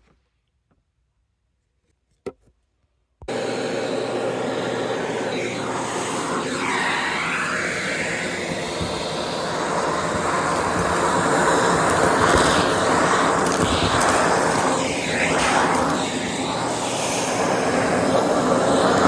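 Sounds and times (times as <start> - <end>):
vacuum cleaner running: 3.3 - 19.0
debris crackling in vacuum: 3.4 - 19.0.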